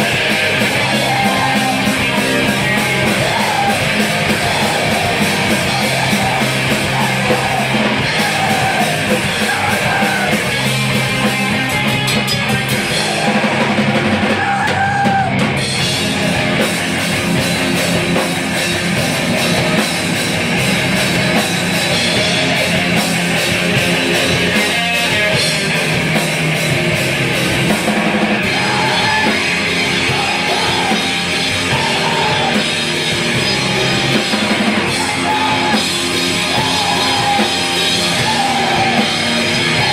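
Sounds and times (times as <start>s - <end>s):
distorted guitars and bass: 0.0s - 39.9s
fast drumming: 0.0s - 39.9s.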